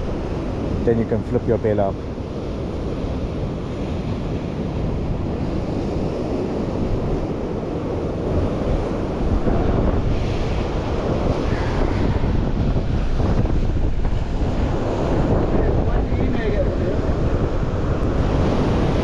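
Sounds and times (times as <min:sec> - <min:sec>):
sea surf breaking over rocks: 0:00.0 - 0:19.0
wind buffeting microphone: 0:00.0 - 0:19.0.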